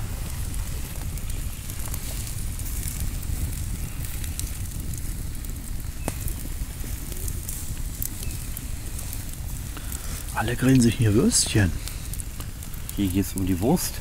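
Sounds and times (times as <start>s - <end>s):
campfire crackling and popping: 0.0s - 14.0s
steady low rumble: 0.0s - 14.0s.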